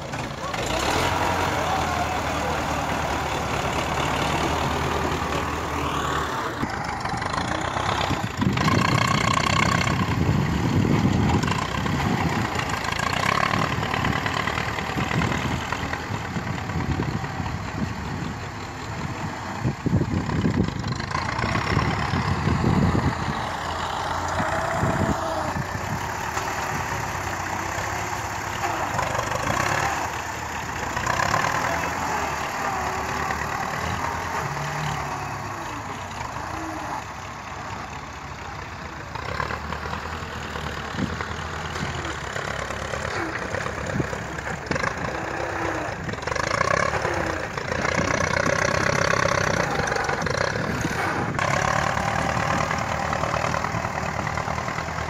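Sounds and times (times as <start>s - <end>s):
diesel tractor engines running: 0.0s - 55.0s.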